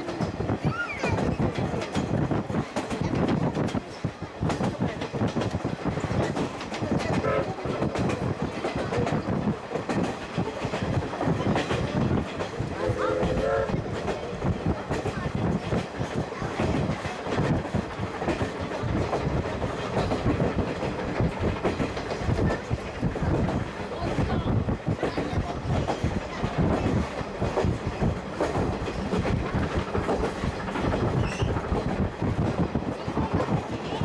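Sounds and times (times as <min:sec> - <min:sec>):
train car body rumbling: 0:00.0 - 0:34.0.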